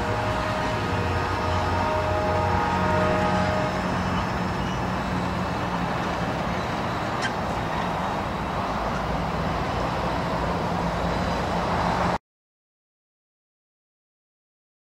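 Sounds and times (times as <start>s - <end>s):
road traffic hum: 0.0s - 12.2s.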